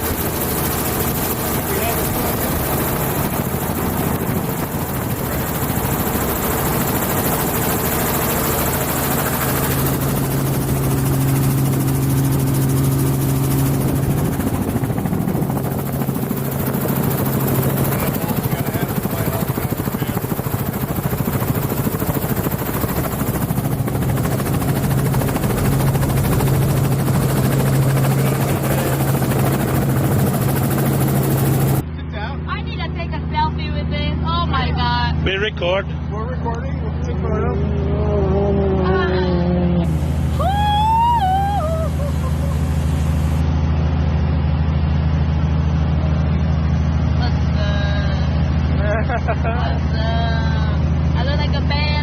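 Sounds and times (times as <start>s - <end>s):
helicopter turbine and rotor drone: 0.0s - 52.0s.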